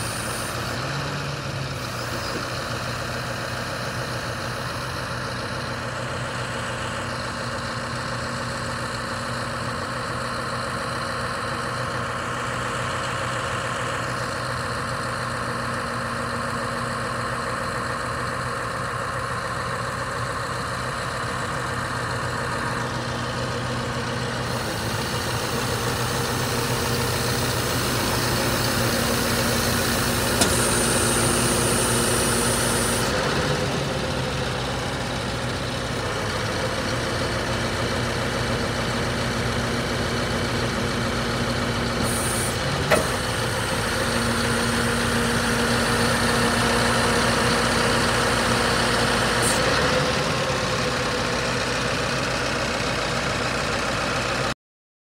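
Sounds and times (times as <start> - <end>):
diesel engine idling: 0.0 - 54.6.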